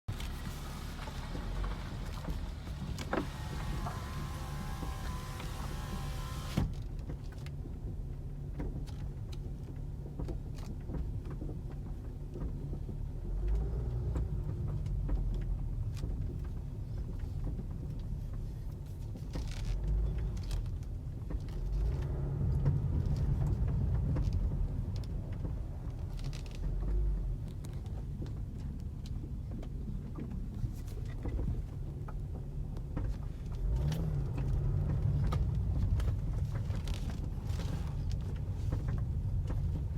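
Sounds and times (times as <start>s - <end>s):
car road rumble: 0.0s - 39.9s
clicks and rattles from trunk: 0.1s - 39.9s.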